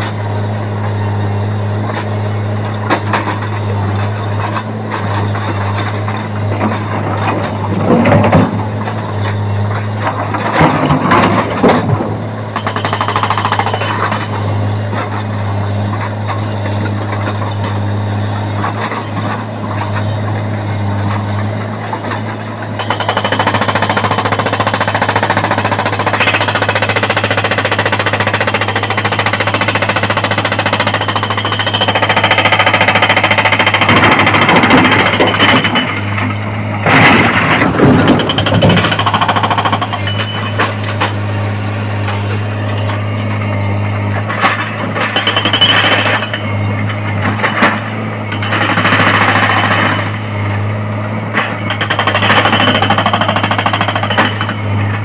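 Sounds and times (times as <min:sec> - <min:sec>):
excavator engine hum: 0:00.0 - 0:55.0
hydraulic rock breaker hammering: 0:01.8 - 0:17.8, 0:18.4 - 0:55.0.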